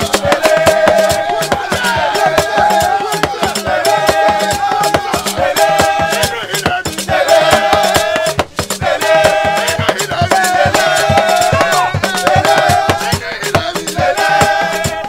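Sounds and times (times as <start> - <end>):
men singing together: 0.0 - 15.0
talking drums beaten with sticks: 0.0 - 15.0.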